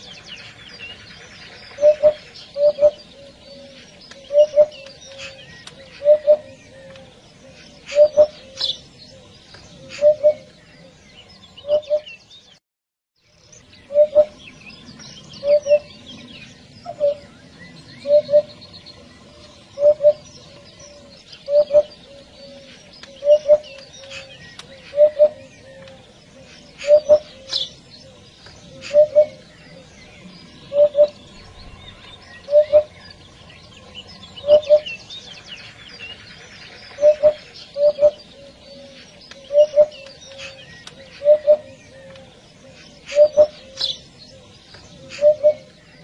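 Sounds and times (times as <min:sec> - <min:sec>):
hoopoe calling: 0:00.0 - 0:11.0, 0:13.8 - 0:14.6, 0:15.3 - 0:45.8
small birds chirping: 0:00.0 - 0:12.6, 0:13.2 - 0:46.0.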